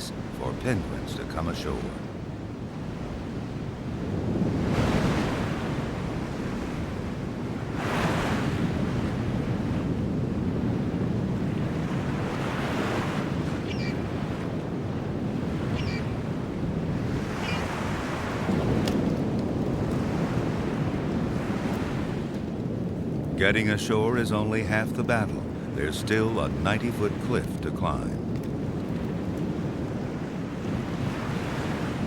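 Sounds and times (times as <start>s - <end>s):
waves crashing on rocky shore: 0.0s - 32.0s.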